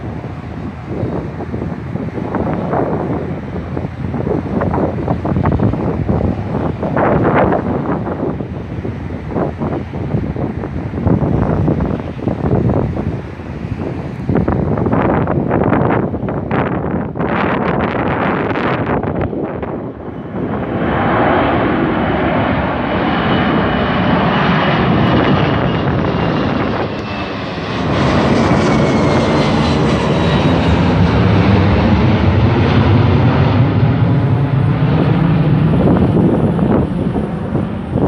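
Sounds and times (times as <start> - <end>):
jet engines roaring overhead: 0.0 - 38.0.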